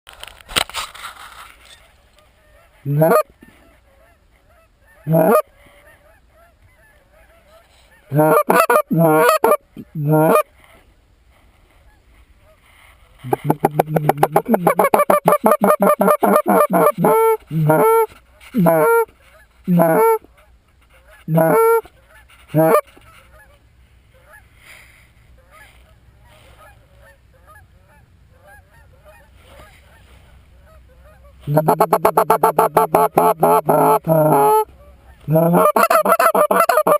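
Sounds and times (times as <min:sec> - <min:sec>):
geese honking: 0:01.7 - 0:10.5, 0:13.2 - 0:24.5, 0:25.4 - 0:36.9.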